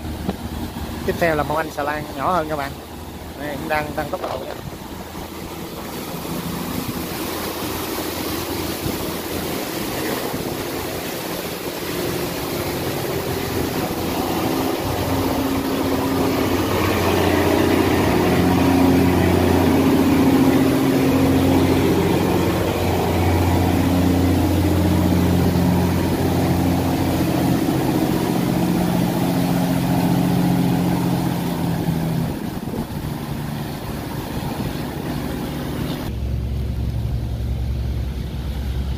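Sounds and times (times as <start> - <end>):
barge engine droning: 0.0 - 38.9.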